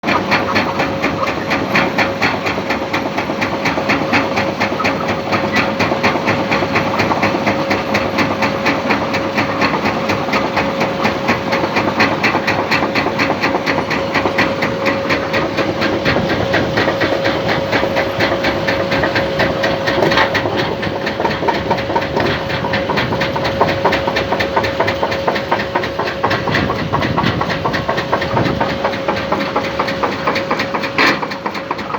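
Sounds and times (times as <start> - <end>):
heavy vehicle engine running: 0.0 - 31.9.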